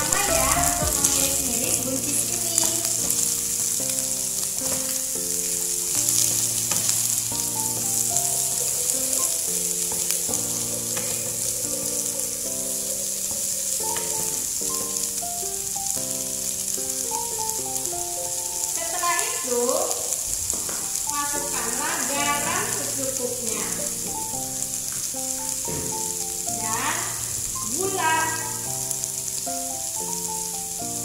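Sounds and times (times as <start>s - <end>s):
background music: 0.0s - 31.0s
food sizzling in a wok: 0.0s - 31.0s.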